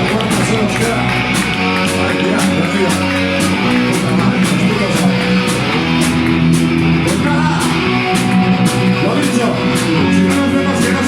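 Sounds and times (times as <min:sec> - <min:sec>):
bass guitar: 0:00.0 - 0:11.0
drums and cymbal hits: 0:00.0 - 0:11.0
electric guitar chords: 0:00.0 - 0:11.0.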